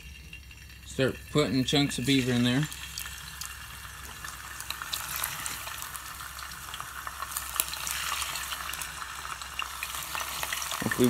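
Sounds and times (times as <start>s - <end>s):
meat frying in hot oil: 0.0s - 11.0s.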